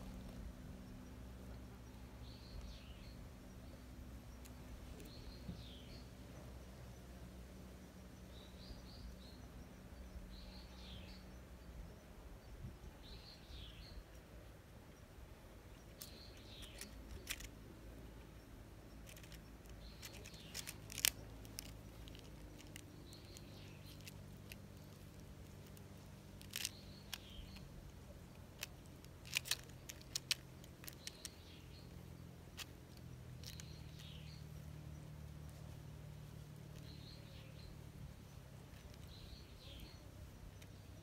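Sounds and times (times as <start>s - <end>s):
low steady hum: 0.0s - 41.0s
small birds chirping: 0.0s - 41.0s.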